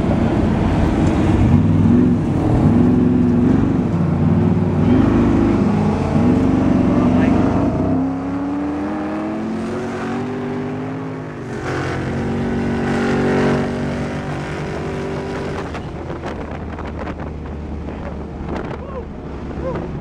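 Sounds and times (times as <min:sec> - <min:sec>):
car engine accelerating: 0:00.0 - 0:20.0
wind and road noise: 0:00.0 - 0:20.0.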